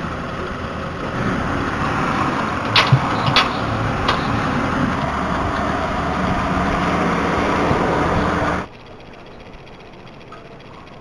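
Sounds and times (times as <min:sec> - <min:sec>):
street noise: 0:00.0 - 0:11.0
vehicle engine rumbling: 0:00.0 - 0:11.0.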